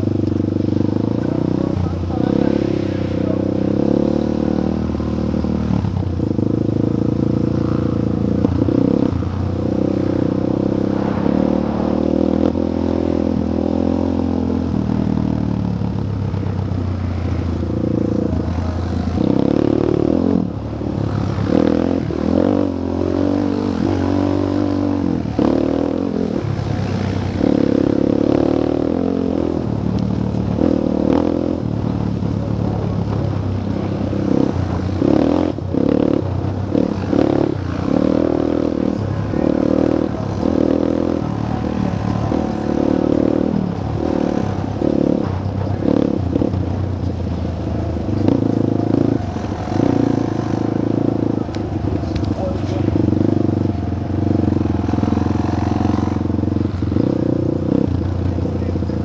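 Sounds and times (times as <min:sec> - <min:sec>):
off-road motorcycle engine revving: 0:00.0 - 0:59.0.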